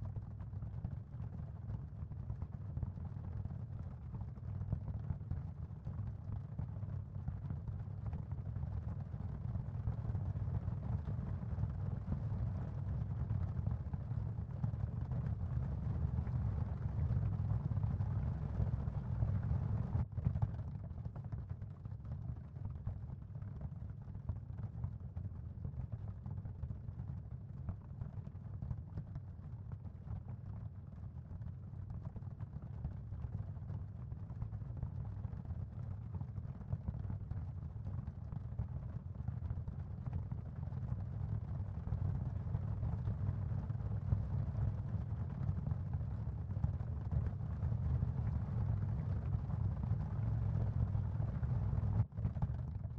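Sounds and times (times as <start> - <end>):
low ambient rumble with hiss: 0.0 - 52.9.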